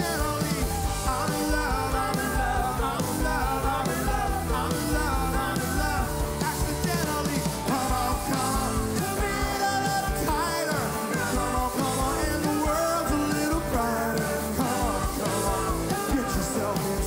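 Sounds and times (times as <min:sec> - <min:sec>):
live rock band: 0:00.0 - 0:17.0
man singing: 0:00.0 - 0:17.0.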